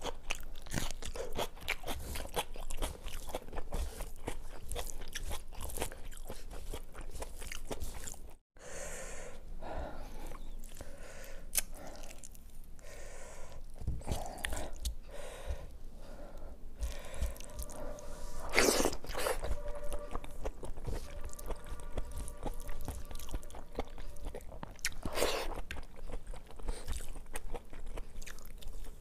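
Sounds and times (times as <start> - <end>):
person chewing crunchy food: 0.0 - 8.4, 10.2 - 12.9, 13.5 - 15.7, 16.8 - 29.0.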